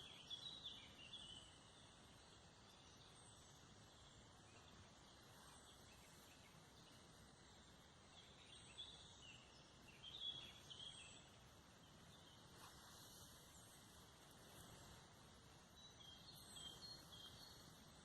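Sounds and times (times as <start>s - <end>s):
faint forest ambience: 0.0s - 18.0s
distant bird calls: 2.8s - 18.0s.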